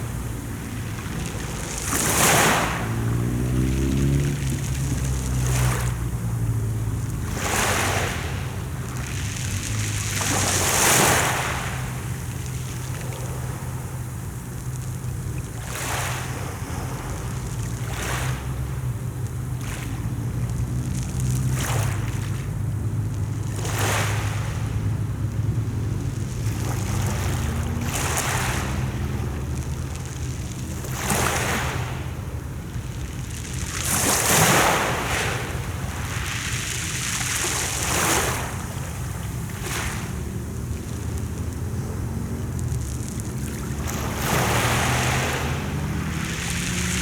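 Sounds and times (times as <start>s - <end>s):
sea waves washing in: 0.0s - 47.0s.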